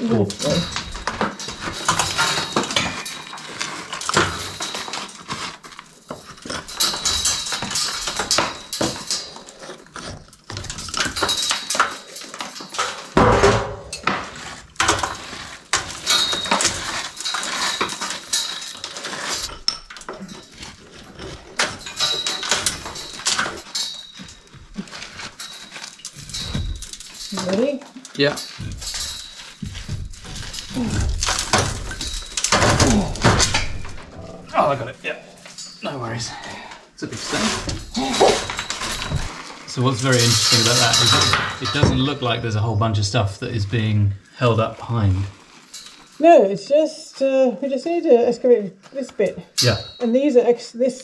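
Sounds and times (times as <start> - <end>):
metal blade scraping mortar: 0.0 - 36.2, 37.0 - 42.4.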